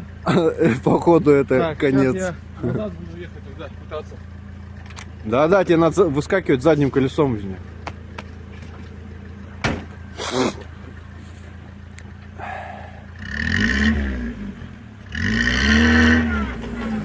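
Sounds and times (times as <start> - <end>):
car engine idling: 0.0 - 17.0
car engine revving: 0.0 - 17.0.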